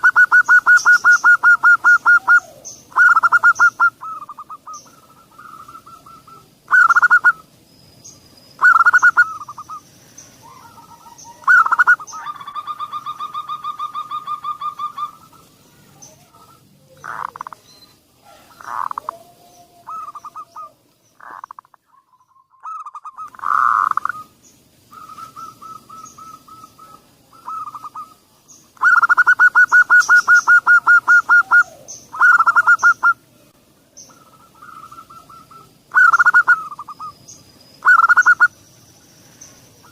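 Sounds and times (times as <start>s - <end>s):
doves cooing in trills: 0.0s - 7.5s, 8.6s - 9.8s, 10.4s - 17.6s, 18.2s - 33.2s, 34.1s - 37.1s, 37.8s - 38.5s.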